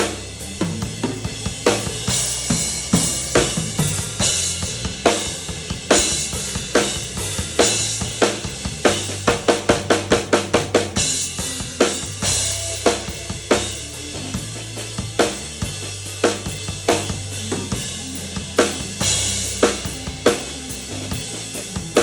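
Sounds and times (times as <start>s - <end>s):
drum kit beat: 0.0s - 22.0s
sustained low bass notes: 0.0s - 22.0s.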